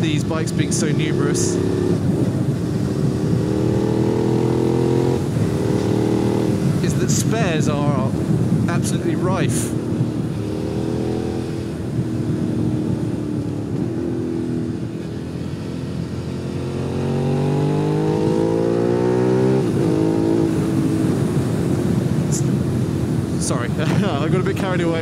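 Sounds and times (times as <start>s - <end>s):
motorcycle engine revving: 0.0s - 7.1s, 7.8s - 25.0s.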